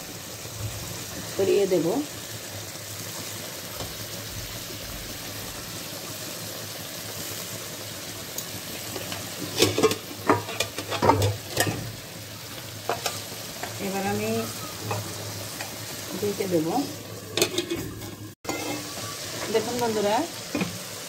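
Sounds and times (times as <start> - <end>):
curry bubbling and sizzling: 0.0 - 21.0.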